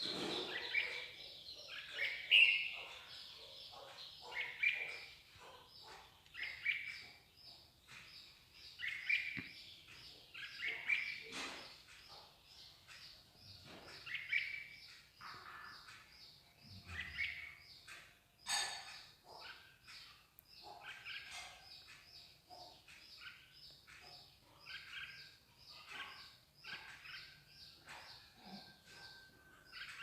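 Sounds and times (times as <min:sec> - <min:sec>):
songbirds chirping and singing: 0:00.0 - 0:30.0.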